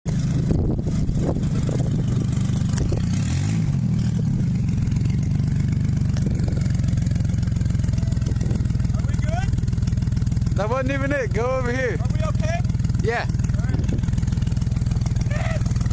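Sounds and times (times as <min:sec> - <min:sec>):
truck engine running: 0:00.0 - 0:15.9.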